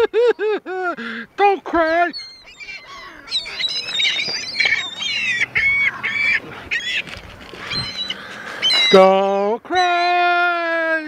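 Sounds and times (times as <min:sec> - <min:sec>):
gulls crying: 0:00.0 - 0:11.0.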